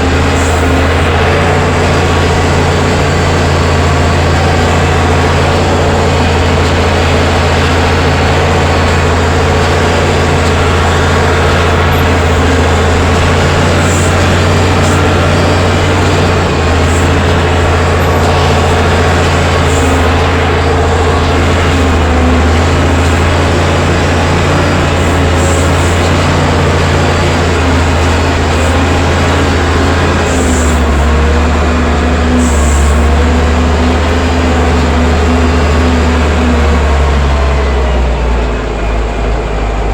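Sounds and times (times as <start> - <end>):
wheel loader diesel engine running: 0.0 - 39.9.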